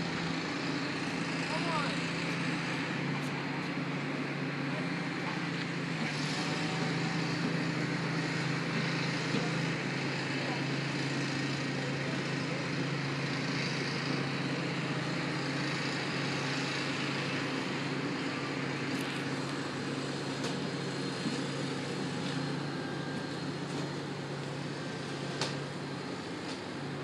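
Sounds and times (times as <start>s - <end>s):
train engine humming: 0.0s - 27.0s.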